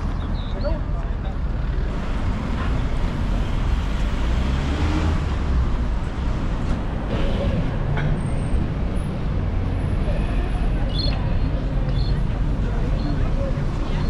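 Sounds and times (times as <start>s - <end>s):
road noise rumble: 0.0s - 14.0s
vehicles passing: 0.0s - 14.0s.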